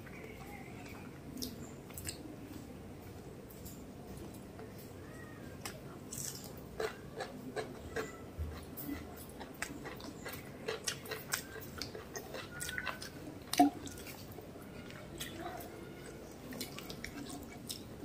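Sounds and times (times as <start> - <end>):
person chewing food: 0.0 - 4.8, 5.6 - 18.0.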